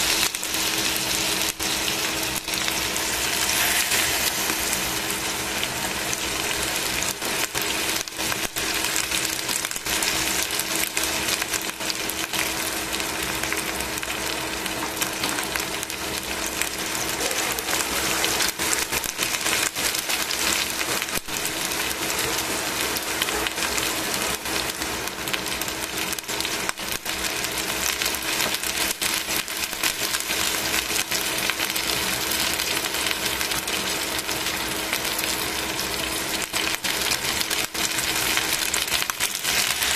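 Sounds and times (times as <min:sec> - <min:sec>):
chicken sizzling in oil: 0:00.0 - 0:39.9.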